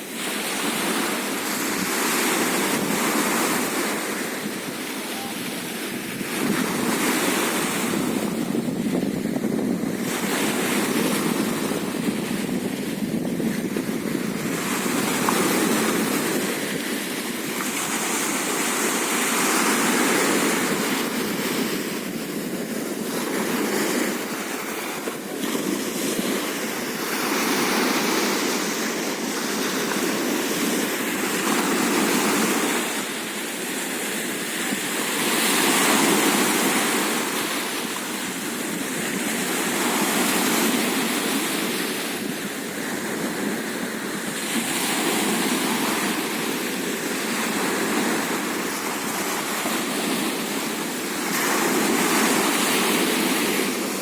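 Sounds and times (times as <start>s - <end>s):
waves breaking on sandy beach: 0.0s - 54.0s.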